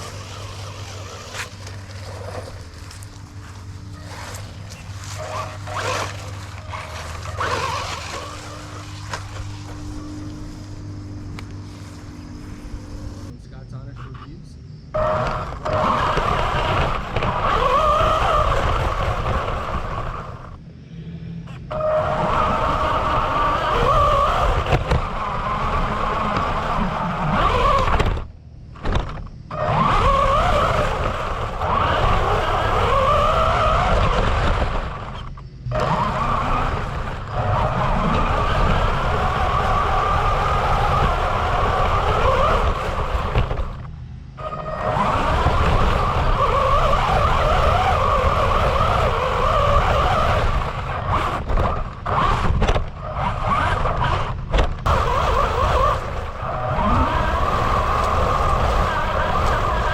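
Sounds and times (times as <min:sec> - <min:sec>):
toy truck motor whining: 0:00.0 - 0:13.3, 0:14.9 - 0:20.6, 0:21.5 - 0:59.9.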